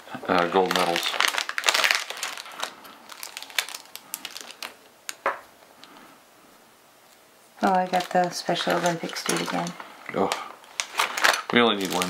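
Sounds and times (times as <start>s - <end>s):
plastic bag crinkling: 0.2s - 5.9s, 7.6s - 12.0s.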